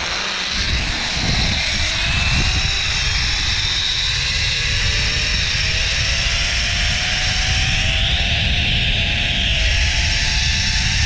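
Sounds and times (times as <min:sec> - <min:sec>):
wind buffeting microphone: 0:00.0 - 0:11.0
zipline pulleys whirring on cable: 0:00.0 - 0:11.0.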